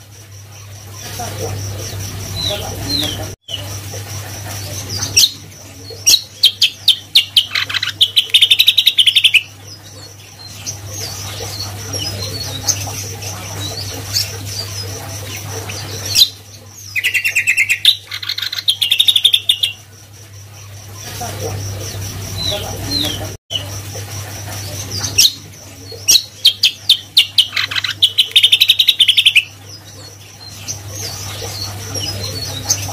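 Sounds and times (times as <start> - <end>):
bird singing rapid notes: 4.7 - 23.7, 24.6 - 32.9.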